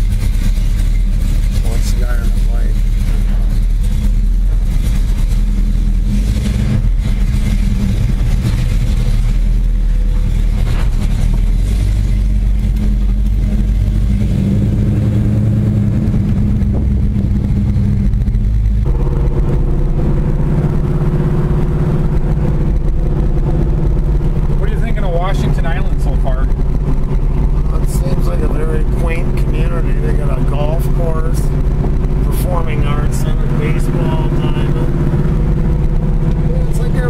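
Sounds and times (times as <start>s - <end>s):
car engine running: 0.0s - 37.0s
road noise: 0.0s - 37.0s.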